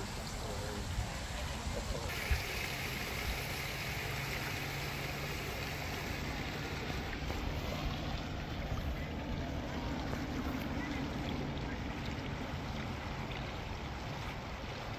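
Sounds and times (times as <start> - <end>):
fountain water splashing: 0.0 - 14.9.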